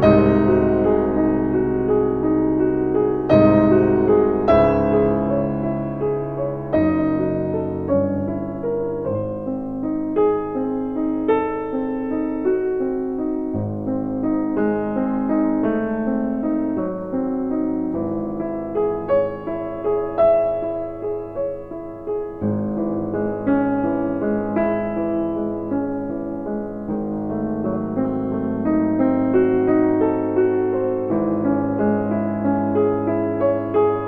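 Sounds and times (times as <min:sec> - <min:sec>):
background piano music: 0:00.0 - 0:34.0.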